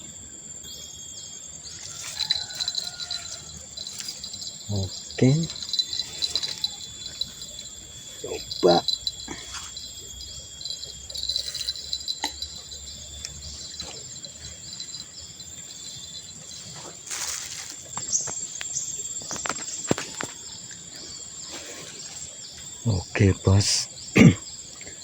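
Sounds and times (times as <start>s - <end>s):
insects chirping and buzzing: 0.0s - 25.0s.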